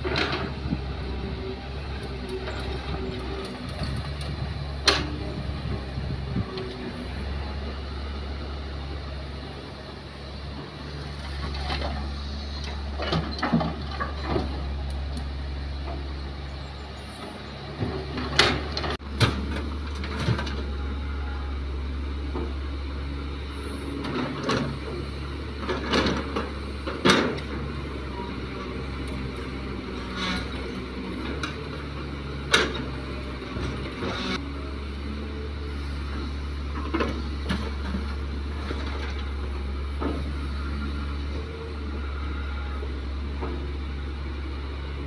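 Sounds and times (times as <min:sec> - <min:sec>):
excavator diesel engine droning: 0:00.0 - 0:45.0.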